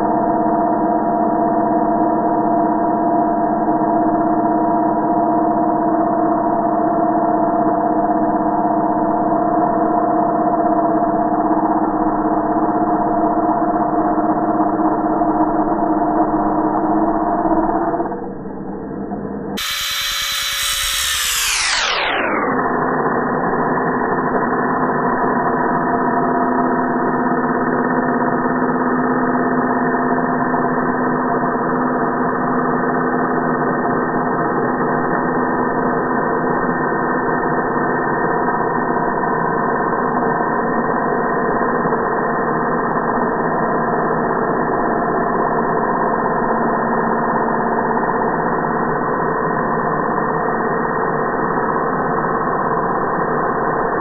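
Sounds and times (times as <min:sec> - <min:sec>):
slowed angle grinder drone: 0:00.0 - 0:54.0.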